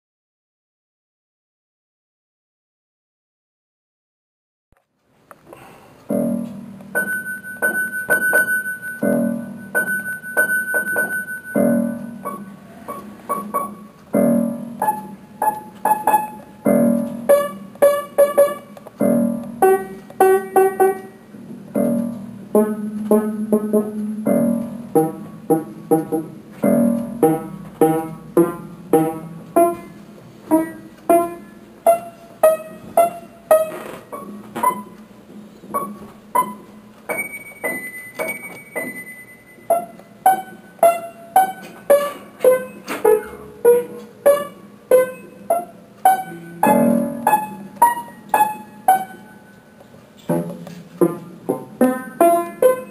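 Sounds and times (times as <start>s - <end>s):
solo piano music: 6.1s - 49.8s, 50.9s - 52.9s.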